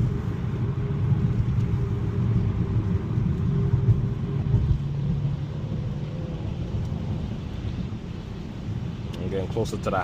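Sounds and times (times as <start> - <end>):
low rumble of tyres and engine: 0.0 - 10.0.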